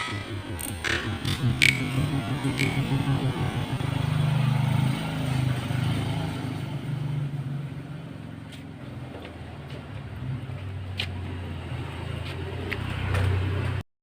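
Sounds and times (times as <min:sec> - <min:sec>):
low engine hum: 0:00.0 - 0:13.8.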